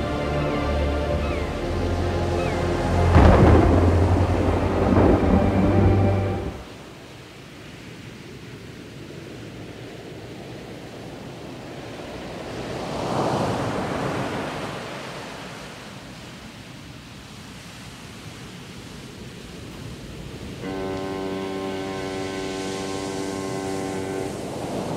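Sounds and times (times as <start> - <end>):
wind and rain rushing: 0.0 - 24.9.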